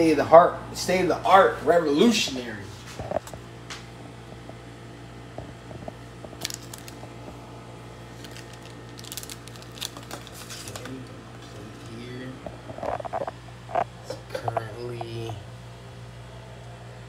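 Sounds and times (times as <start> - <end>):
toaster electric hum: 0.0 - 17.0.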